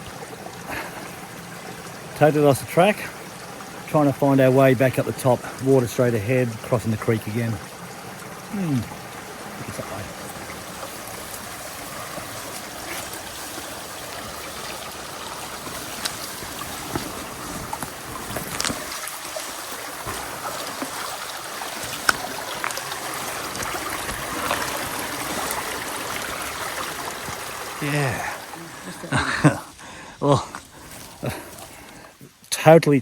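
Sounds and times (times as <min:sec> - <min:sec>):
creek water running over rocks: 0:00.0 - 0:33.0.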